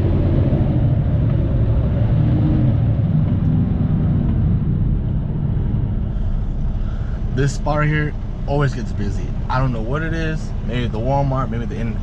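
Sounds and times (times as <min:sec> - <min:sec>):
truck diesel engine rumble: 0:00.0 - 0:12.0.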